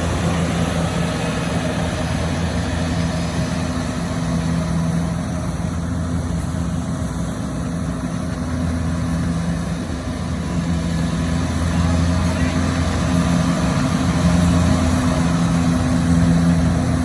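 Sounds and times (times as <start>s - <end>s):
combine harvester engine running: 0.0s - 17.0s.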